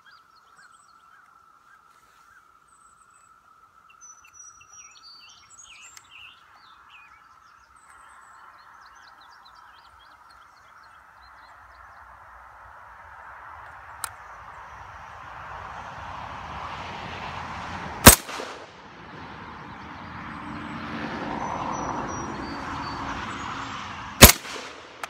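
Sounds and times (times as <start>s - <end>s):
faint birds chirping: 0.0s - 16.2s, 19.2s - 25.0s
outdoor background noise: 0.0s - 25.0s.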